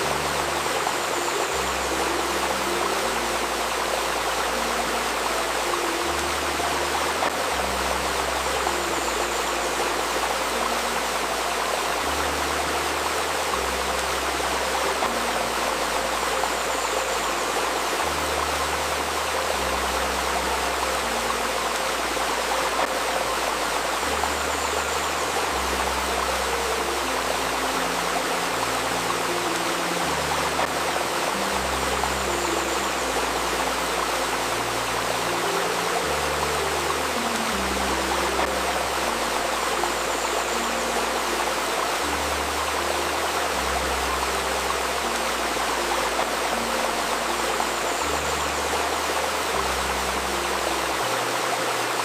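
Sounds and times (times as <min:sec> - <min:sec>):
faint sustained tone: 0:00.0 - 0:52.0
river rushing and babbling: 0:00.0 - 0:52.0.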